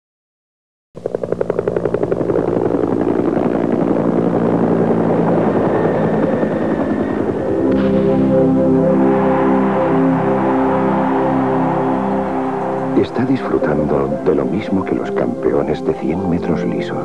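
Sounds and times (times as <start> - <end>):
low drone: 1.0 - 17.0.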